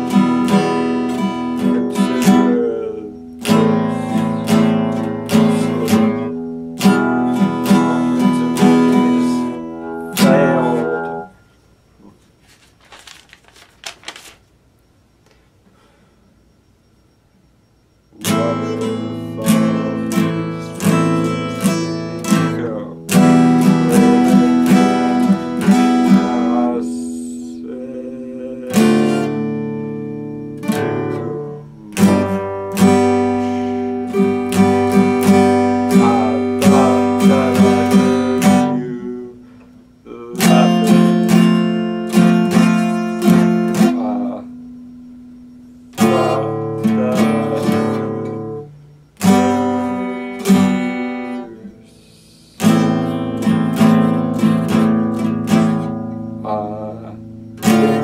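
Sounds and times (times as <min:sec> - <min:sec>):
acoustic guitar strumming chords: 0:00.0 - 0:14.2, 0:18.0 - 0:58.0.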